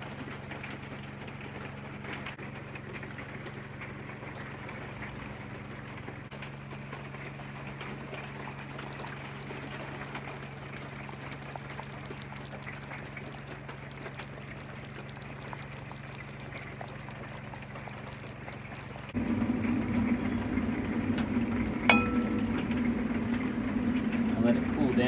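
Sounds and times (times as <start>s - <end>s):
stew simmering and bubbling: 0.0s - 25.0s
low hum: 3.0s - 24.4s.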